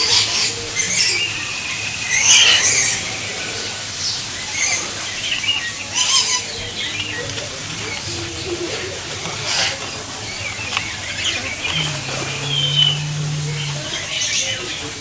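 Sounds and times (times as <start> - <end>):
birds squawking and chirping: 0.0 - 15.0.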